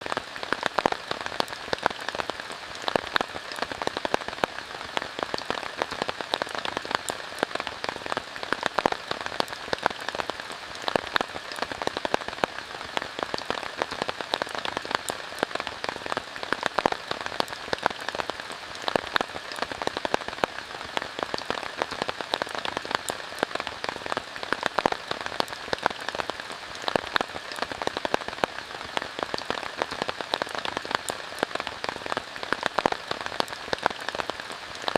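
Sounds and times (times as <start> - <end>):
raindrops hitting a surface: 0.0 - 34.9
steady rain hiss: 0.0 - 34.9.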